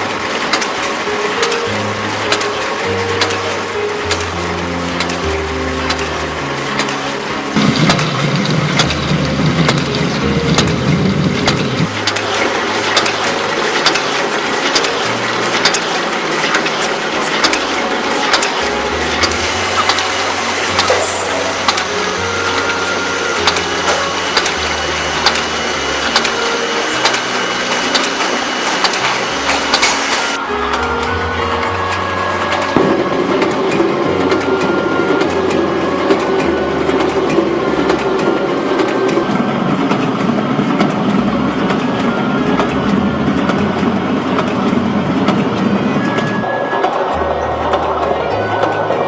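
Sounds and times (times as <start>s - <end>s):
sewing machine clattering: 0.0s - 49.0s.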